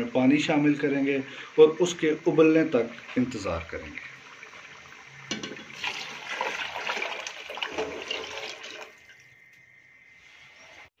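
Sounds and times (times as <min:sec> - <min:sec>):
water pouring into pot: 0:00.1 - 0:09.6.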